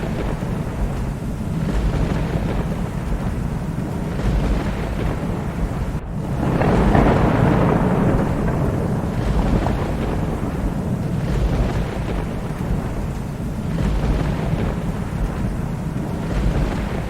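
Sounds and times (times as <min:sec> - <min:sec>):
loud peal of thunder: 0:00.0 - 0:17.0
low rumble of thunder: 0:00.0 - 0:17.0
steady rain: 0:00.0 - 0:17.0.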